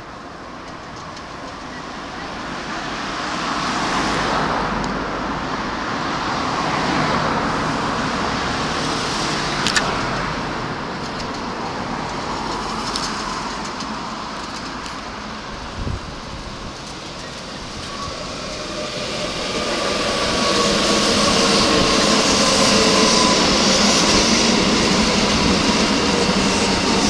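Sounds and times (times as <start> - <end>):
electric train rumble: 0.0 - 27.0.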